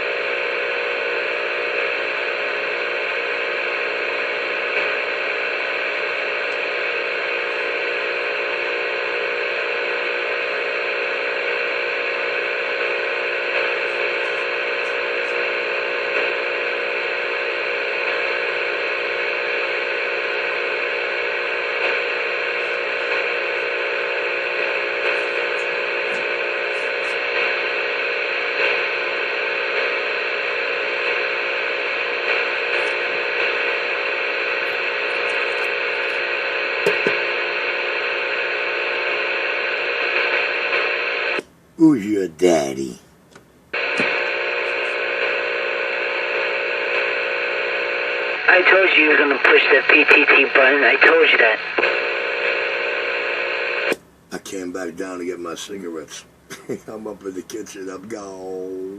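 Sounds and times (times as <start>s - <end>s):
radio static: 0.0s - 43.0s, 43.8s - 58.9s
steady radio tones: 0.0s - 43.0s, 43.8s - 58.9s.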